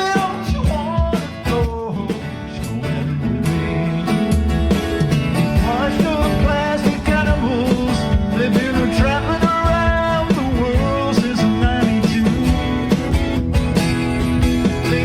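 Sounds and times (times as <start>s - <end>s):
drums: 0.0s - 15.0s
strummed guitar: 0.0s - 15.0s.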